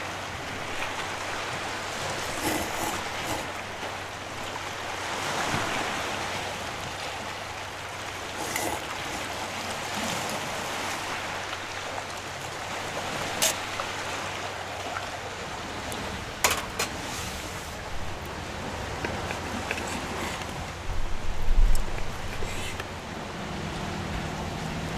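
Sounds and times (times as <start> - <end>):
sea surf: 0.0 - 24.9.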